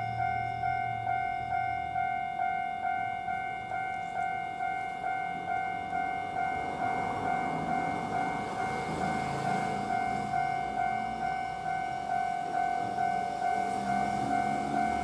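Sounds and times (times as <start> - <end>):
level-crossing warning bell: 0.0 - 15.0
train rumble: 0.0 - 15.0.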